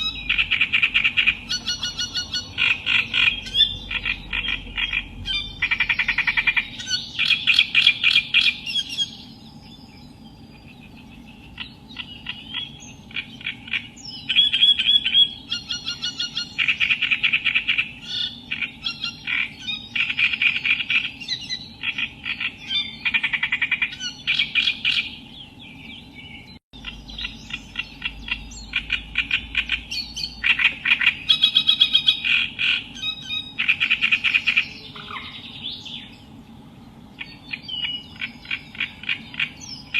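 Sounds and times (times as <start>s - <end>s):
reed warbler singing: 0.0s - 39.9s.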